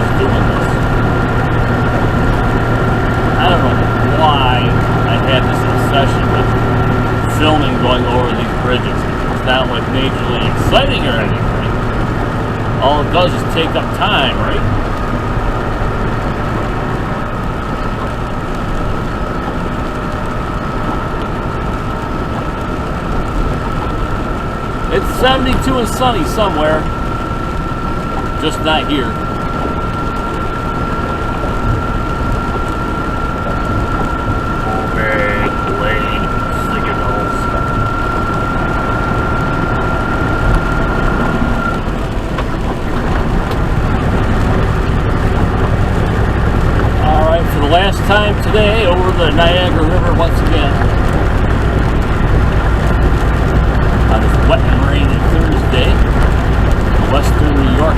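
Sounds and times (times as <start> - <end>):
thin steady whine: 0.0 - 57.9
truck engine drone: 0.0 - 57.9.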